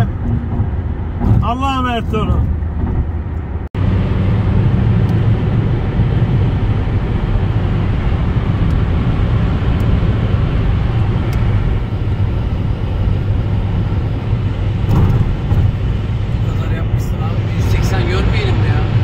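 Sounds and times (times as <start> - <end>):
in-car road and engine noise: 0.0 - 19.0.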